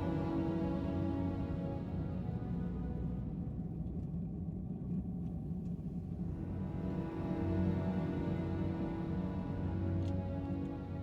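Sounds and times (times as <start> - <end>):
slow orchestral music: 0.0 - 11.0.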